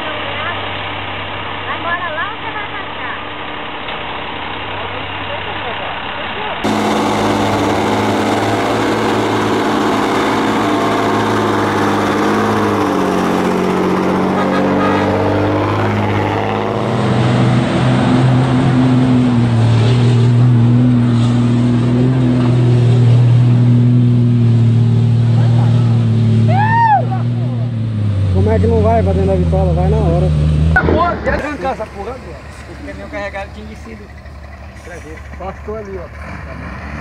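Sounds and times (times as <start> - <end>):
heavy diesel truck engine droning: 0.0 - 37.0.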